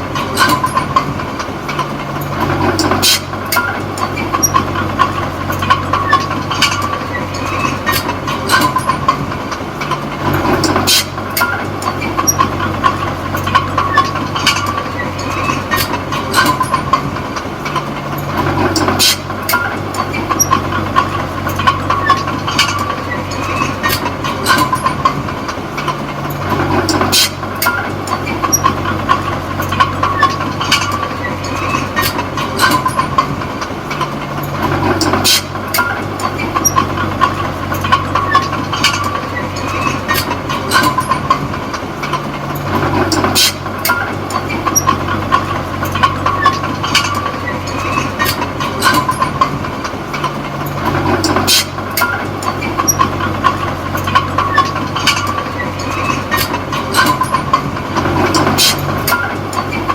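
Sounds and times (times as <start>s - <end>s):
bulldozer diesel engine under load: 0.0s - 59.9s
steel tracks clanking and squealing: 0.0s - 59.9s.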